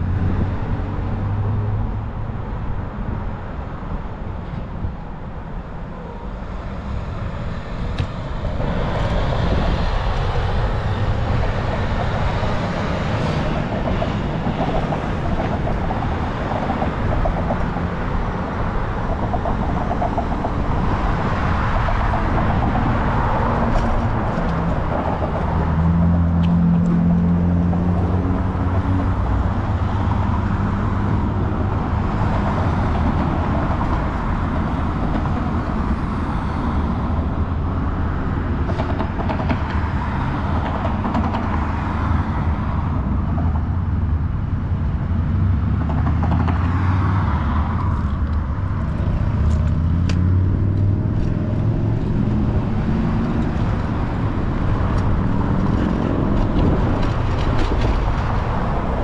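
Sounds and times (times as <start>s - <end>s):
rumble of passing cars: 0.0s - 59.0s.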